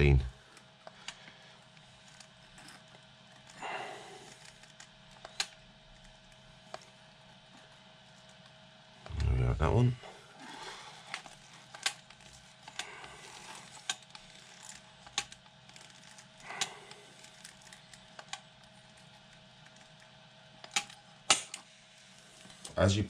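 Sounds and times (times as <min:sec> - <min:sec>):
soft noisy resin pumping: 0:00.0 - 0:23.0.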